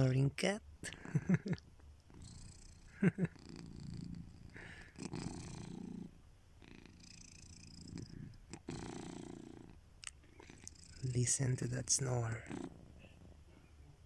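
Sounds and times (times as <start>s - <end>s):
cat snoring: 2.1s - 13.4s.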